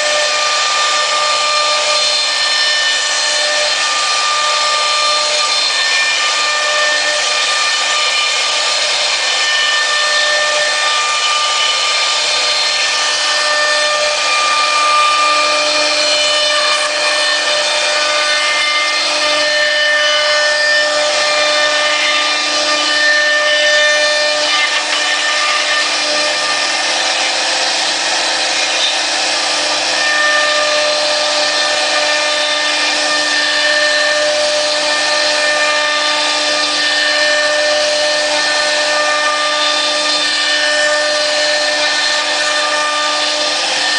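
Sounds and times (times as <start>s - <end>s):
bit cutting wood: 0.0s - 43.9s
router spindle whine: 0.0s - 43.9s.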